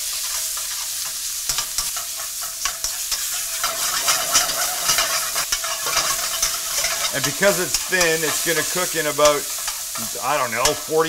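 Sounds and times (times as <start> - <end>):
metal tongs scraping a pan: 0.0 - 11.0
steak sizzling in hot oil: 0.0 - 11.0.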